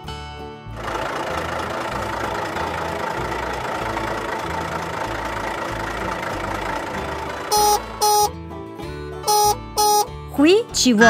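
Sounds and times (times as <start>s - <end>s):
background music: 0.0s - 11.0s
tractor engine running: 0.6s - 10.6s.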